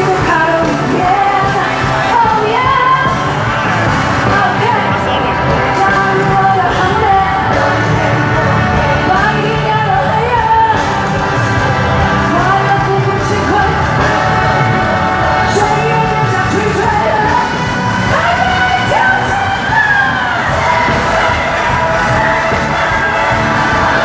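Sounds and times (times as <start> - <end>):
live pop song with singer: 0.0 - 24.0.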